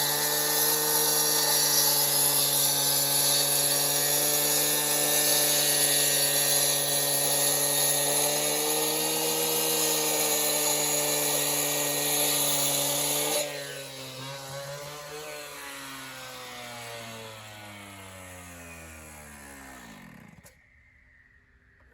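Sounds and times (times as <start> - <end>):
cut-off saw running: 0.0 - 20.5.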